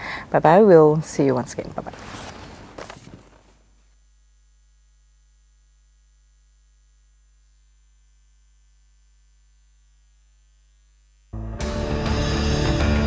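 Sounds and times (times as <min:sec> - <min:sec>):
faint mains hum: 0:00.0 - 0:11.4.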